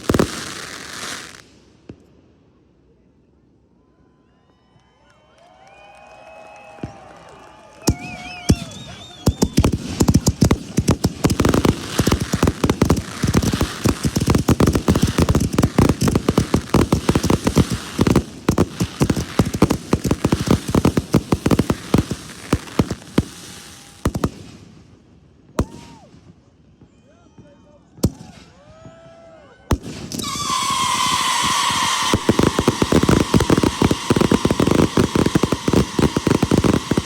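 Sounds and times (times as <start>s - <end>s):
fireworks cracking and banging: 0.0s - 2.1s, 6.7s - 26.5s, 28.0s - 37.0s.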